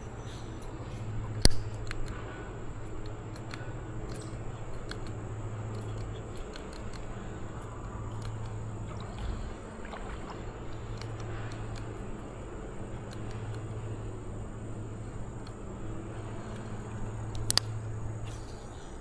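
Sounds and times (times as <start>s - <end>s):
breeze: 0.0s - 19.0s
creek water flowing: 0.0s - 19.0s.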